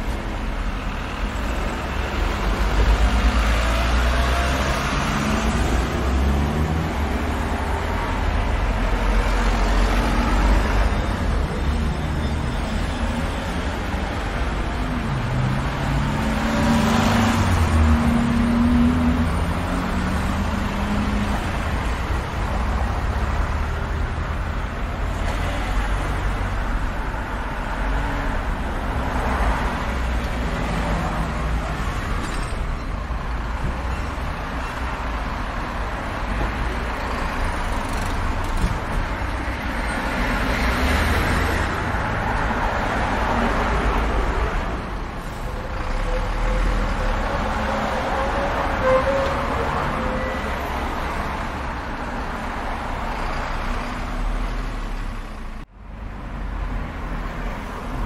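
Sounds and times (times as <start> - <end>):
road traffic rumble: 0.0 - 58.0
vehicles passing by: 0.0 - 58.0.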